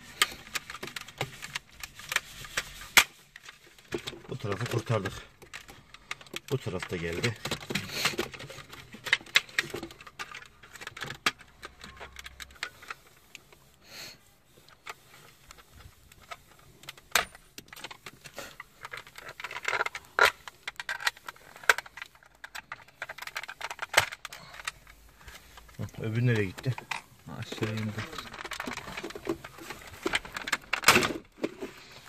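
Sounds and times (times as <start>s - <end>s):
hard plastic clicking and rattling: 0.0s - 13.8s, 14.5s - 32.0s.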